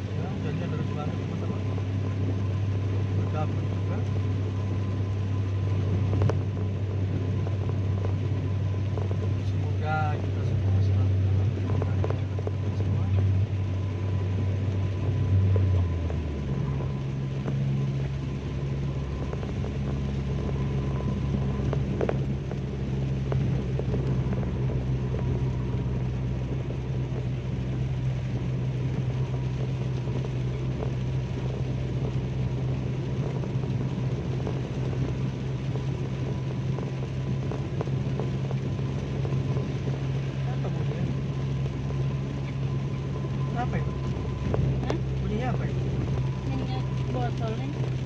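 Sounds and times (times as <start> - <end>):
engine and road drone: 0.0 - 48.0
rain and wet tyres hiss: 0.0 - 48.0.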